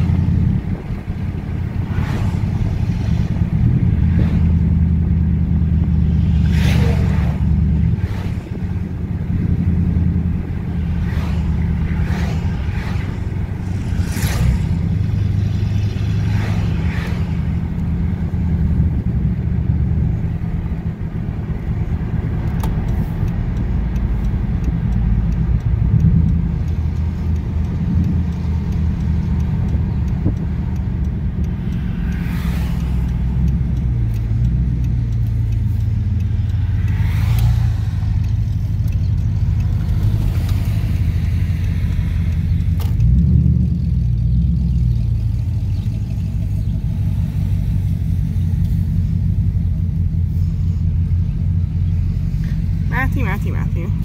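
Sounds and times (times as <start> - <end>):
car engine rumble: 0.0 - 54.0
vehicles passing by: 0.0 - 54.0.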